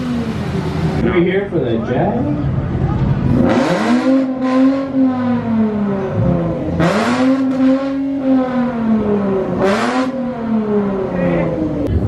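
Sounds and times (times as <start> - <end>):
car engine revving: 0.0 - 1.3, 2.1 - 12.0.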